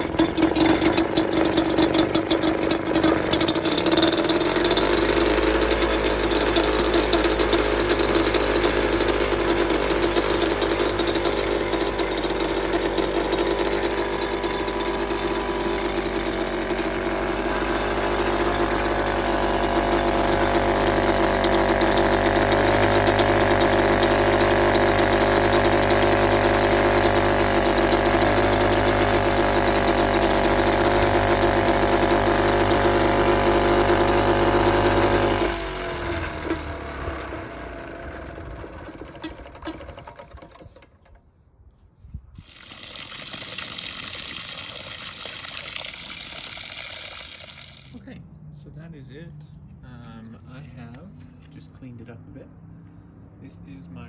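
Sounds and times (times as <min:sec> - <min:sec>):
outboard motor running: 0:00.0 - 0:41.2, 0:42.4 - 0:48.2.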